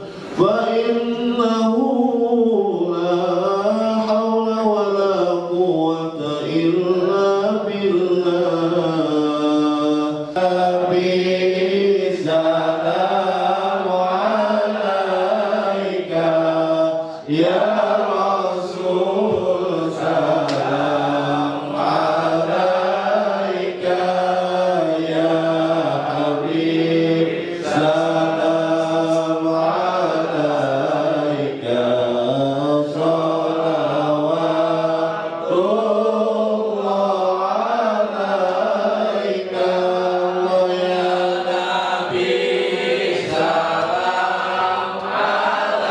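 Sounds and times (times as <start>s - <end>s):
man chanting a hymn: 0.0s - 45.9s.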